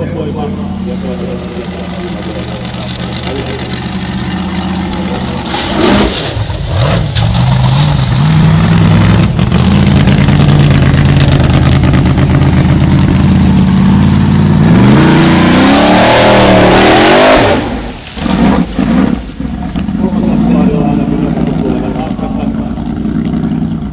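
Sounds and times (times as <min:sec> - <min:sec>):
buggy engine revving: 0:00.0 - 0:23.9.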